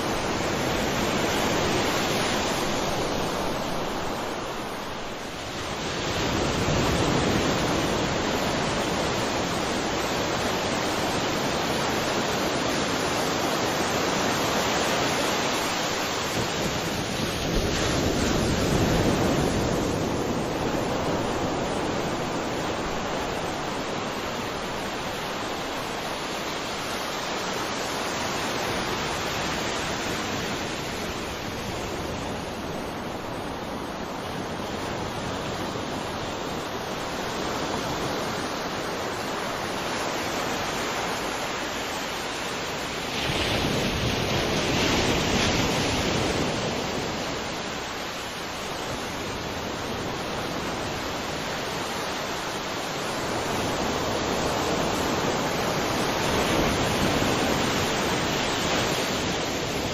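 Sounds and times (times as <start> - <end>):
surf washing: 0.0 - 59.9.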